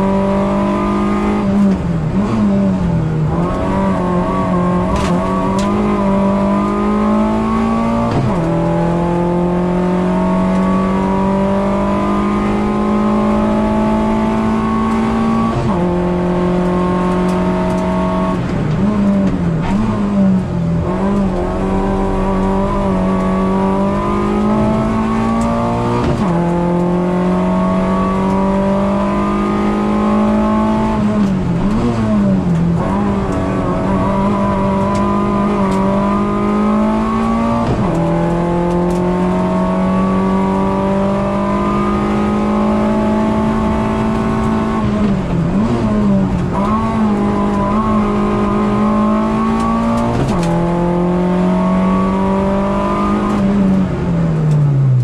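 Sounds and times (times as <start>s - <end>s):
racing car engine at high revs: 0.0s - 55.0s.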